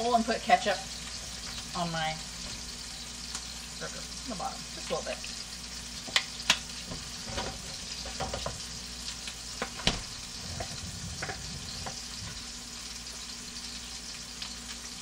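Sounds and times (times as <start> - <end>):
burger patties sizzling in a pan: 0.0 - 15.0.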